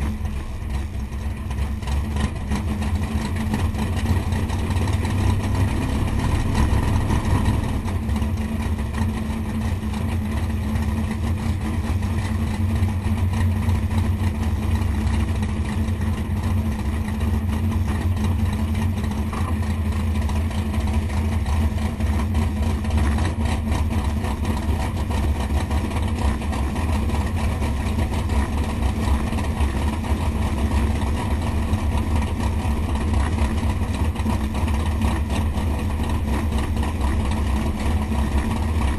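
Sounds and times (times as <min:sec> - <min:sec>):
engine idling low rumble: 0:00.0 - 0:38.9.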